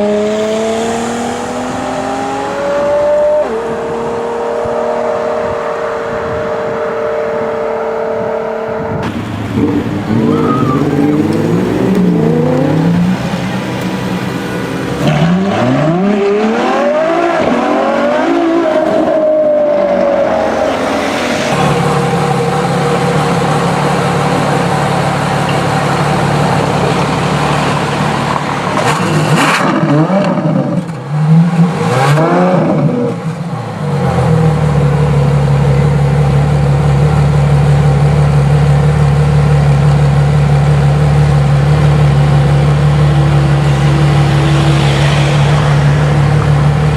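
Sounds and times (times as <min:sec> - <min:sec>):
sports car engine revving: 0:00.0 - 0:46.9.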